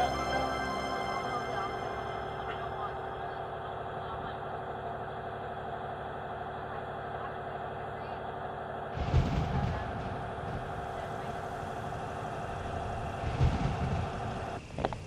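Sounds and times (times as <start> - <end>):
boat engine droning: 0.0 - 9.0, 9.6 - 14.7.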